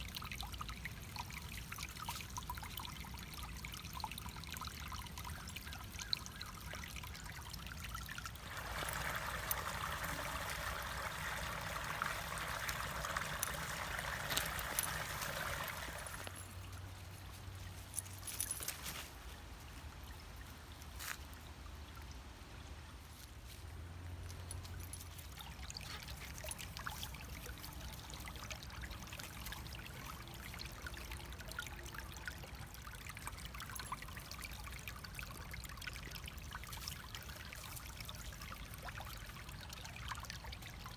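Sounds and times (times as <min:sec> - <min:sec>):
creek water trickling over stones: 0:00.0 - 0:40.9.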